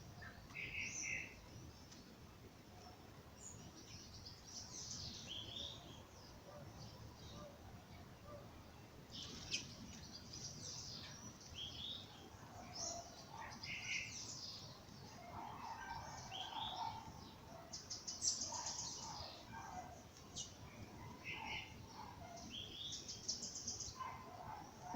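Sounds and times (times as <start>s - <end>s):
low background hiss: 0.0s - 24.9s
songbirds chirping and singing: 0.0s - 24.9s.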